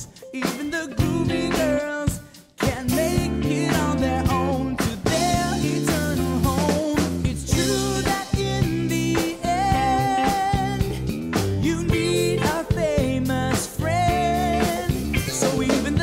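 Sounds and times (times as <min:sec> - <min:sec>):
drum kit beat: 0:00.0 - 0:16.0
person singing lead vocal: 0:00.0 - 0:16.0
upbeat pop worship song: 0:00.0 - 0:16.0.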